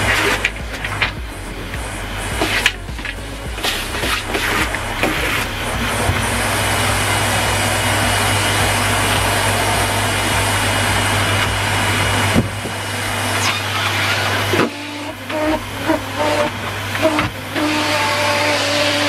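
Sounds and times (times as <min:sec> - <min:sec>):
vacuum cleaner running over carpet: 0:03.6 - 0:19.0.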